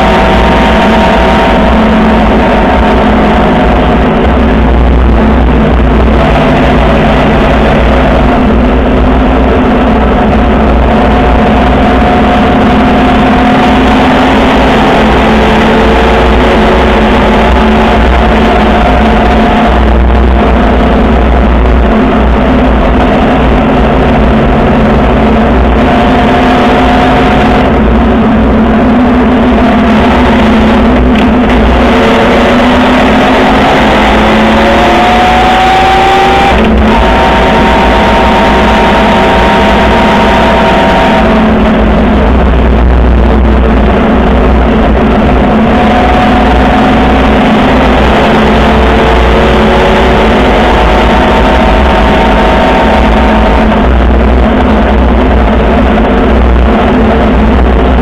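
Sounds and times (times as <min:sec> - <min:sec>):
low wind rumble: 0:00.0 - 0:58.0
motorcycle engine running: 0:00.0 - 0:58.0.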